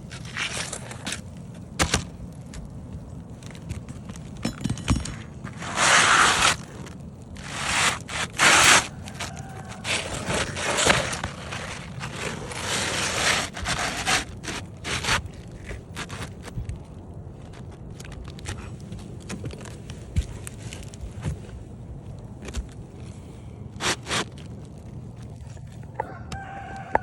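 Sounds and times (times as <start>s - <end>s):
scraping on roof shingles: 0.0s - 21.6s, 22.2s - 25.9s.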